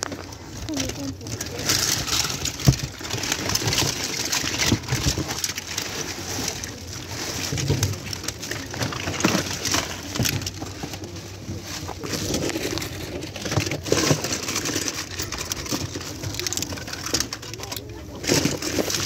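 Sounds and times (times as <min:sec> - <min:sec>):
plastic toys clattering in a box: 0:00.0 - 0:19.0.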